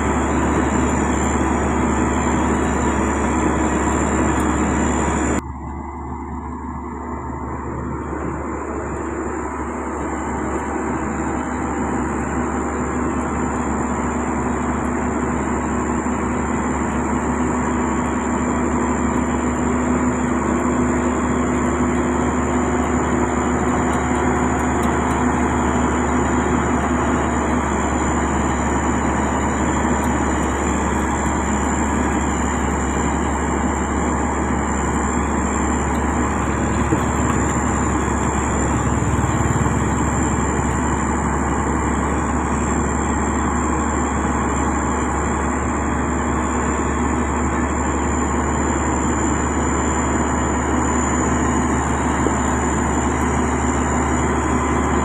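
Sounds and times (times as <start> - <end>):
heavy diesel engine running: 0.0 - 55.0
high whine: 0.0 - 55.0.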